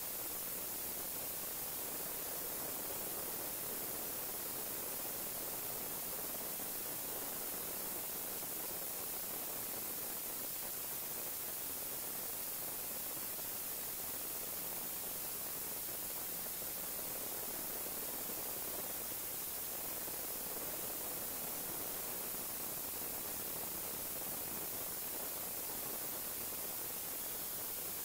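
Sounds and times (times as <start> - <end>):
static hiss: 0.0 - 28.0.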